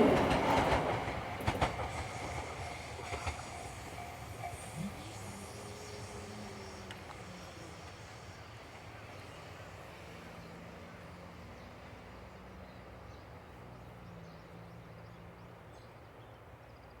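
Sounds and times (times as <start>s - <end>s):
train rumbling: 0.0s - 16.7s.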